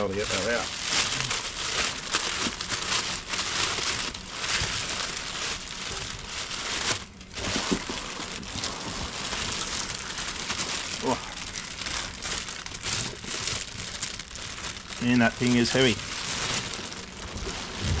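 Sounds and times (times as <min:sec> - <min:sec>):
plastic wrapping crinkling: 0:00.0 - 0:18.0.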